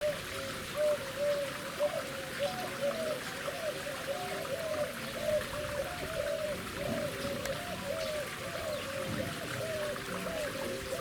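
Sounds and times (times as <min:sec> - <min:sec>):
water trickling and gurgling: 0:00.0 - 0:11.0.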